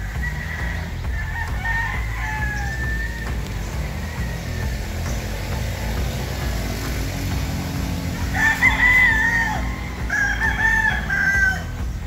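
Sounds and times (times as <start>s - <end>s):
rooster crowing: 0.0s - 12.0s.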